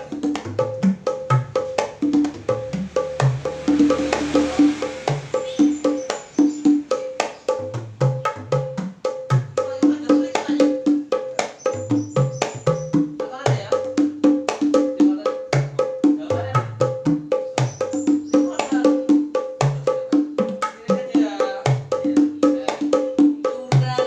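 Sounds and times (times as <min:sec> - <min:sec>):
hand drums played with hands: 0:00.0 - 0:24.0.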